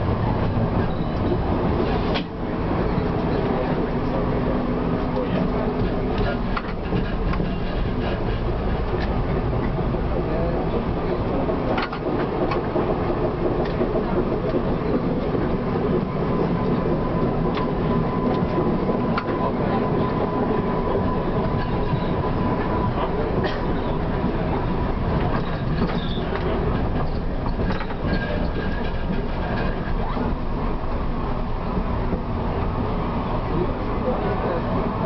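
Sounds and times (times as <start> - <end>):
rail clicks: 0.0 - 35.0
tram wheels rumbling on rails: 0.0 - 35.0.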